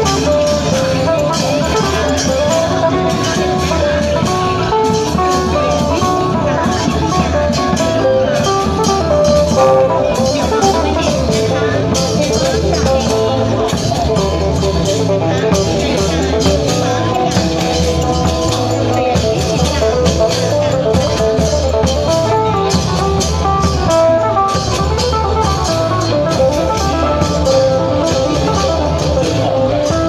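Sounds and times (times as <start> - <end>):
plucked string melody: 0.0 - 30.0
steady drum beat: 0.0 - 30.0.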